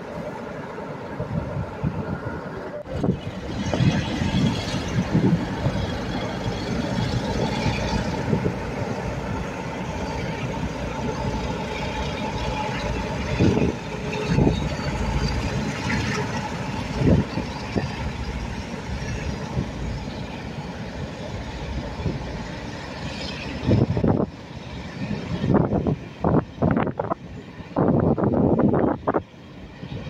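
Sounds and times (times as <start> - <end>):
diesel locomotives pulling away: 0.0 - 30.0
train coaches rolling past: 0.0 - 30.0.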